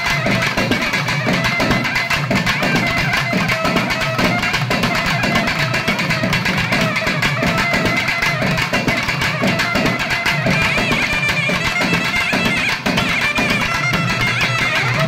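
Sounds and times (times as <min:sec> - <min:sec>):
dense fast drumming: 0:00.0 - 0:15.0.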